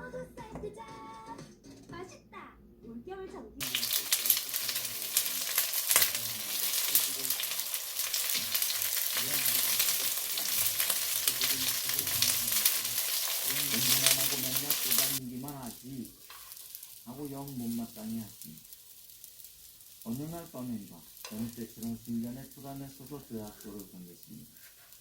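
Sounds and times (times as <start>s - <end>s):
batter sizzling in oil: 3.6s - 25.0s.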